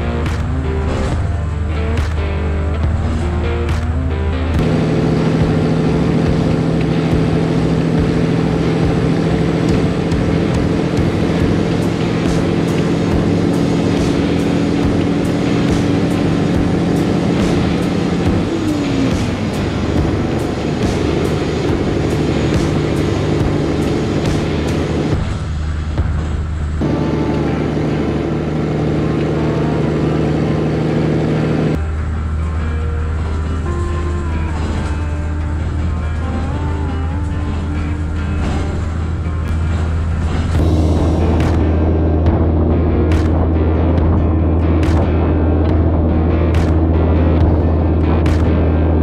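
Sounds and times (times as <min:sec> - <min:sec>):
road and tyre rumble: 0:00.0 - 0:49.0
truck diesel engine running: 0:00.0 - 0:49.0.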